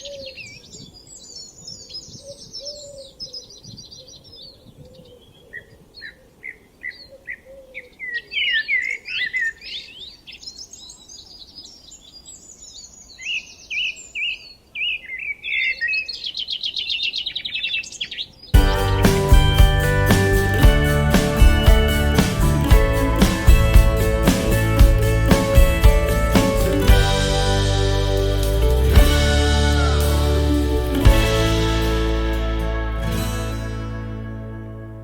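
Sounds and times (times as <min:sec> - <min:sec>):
songbirds singing: 0:00.0 - 0:31.3.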